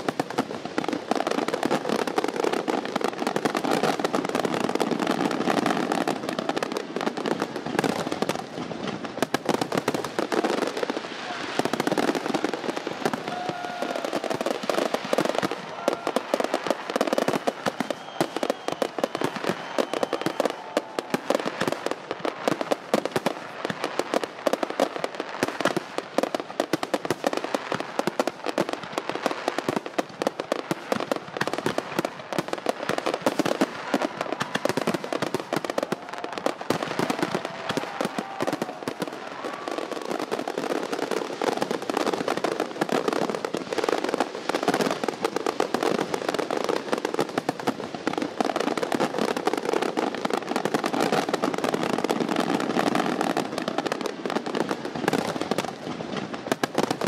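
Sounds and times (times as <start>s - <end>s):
fireworks popping and crackling: 0.0s - 57.0s.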